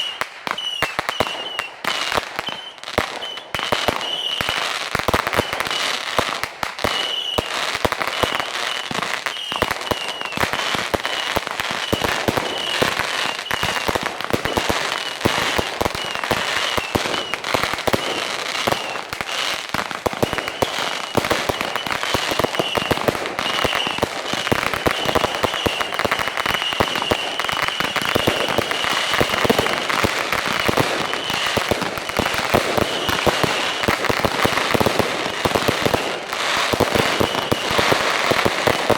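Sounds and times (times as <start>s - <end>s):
fireworks cracking and banging: 0.0s - 38.9s.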